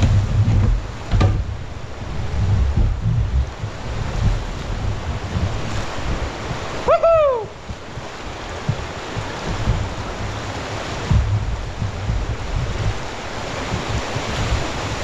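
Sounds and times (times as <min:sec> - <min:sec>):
rushing river water: 0:00.0 - 0:15.0
wind buffeting microphone: 0:00.0 - 0:15.0.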